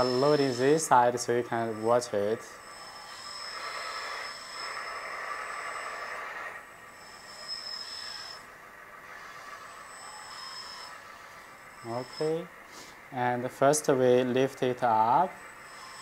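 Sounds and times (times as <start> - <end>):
high electronic whine: 0.0 - 16.0
toy electric motor whirring: 0.0 - 16.0.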